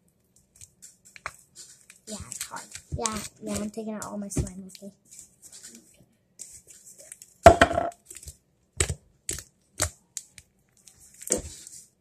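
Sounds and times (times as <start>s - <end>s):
slime squishing by hand: 0.2s - 12.0s.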